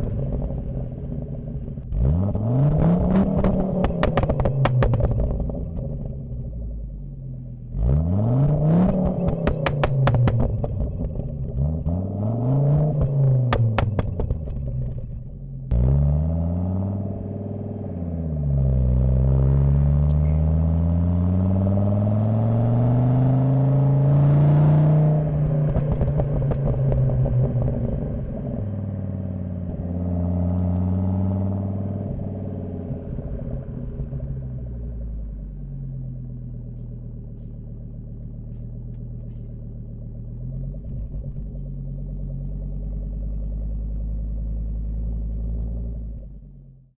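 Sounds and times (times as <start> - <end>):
car engine revving: 0.0 - 46.6
exhaust crackles: 0.0 - 46.7.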